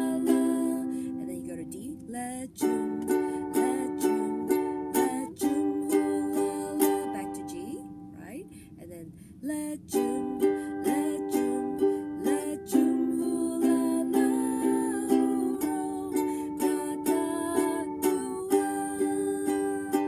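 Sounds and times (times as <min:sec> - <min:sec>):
ukulele strumming: 0:00.0 - 0:08.2, 0:09.9 - 0:20.0.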